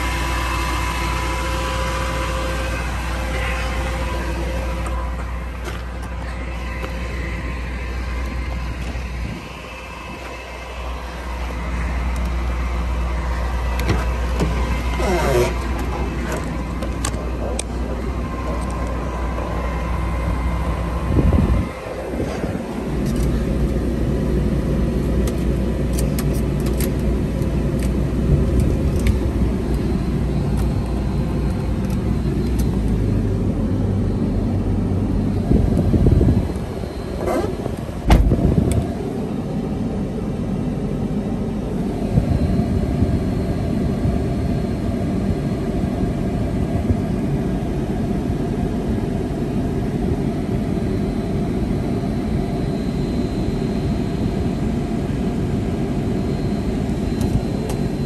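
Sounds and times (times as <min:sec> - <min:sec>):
air-conditioning blower: 0:00.0 - 0:58.0
truck engine idling: 0:00.0 - 0:58.0.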